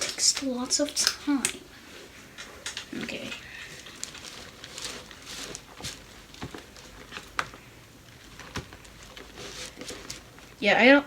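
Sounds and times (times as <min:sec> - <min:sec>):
hands mixing slime: 0:00.0 - 0:11.0.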